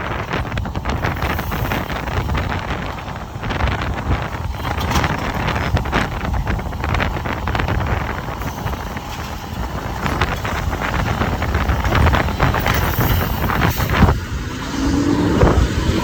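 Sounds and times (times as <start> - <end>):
garbage truck running: 0.0 - 16.0
wind buffeting microphone: 0.0 - 16.0.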